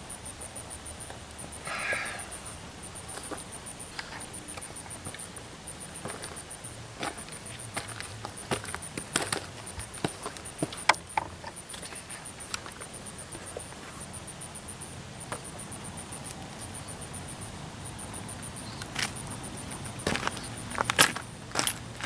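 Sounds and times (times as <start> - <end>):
insect pulsing chirp: 0.0 - 22.0.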